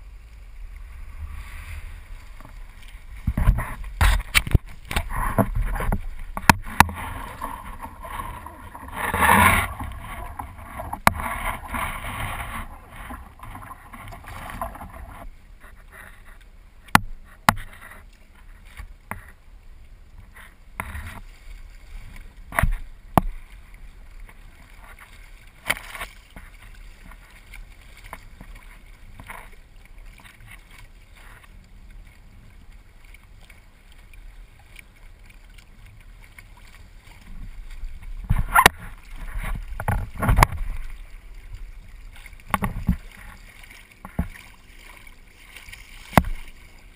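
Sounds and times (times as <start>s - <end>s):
water sloshing against hull: 0.0s - 46.9s
water splashes: 0.0s - 46.9s.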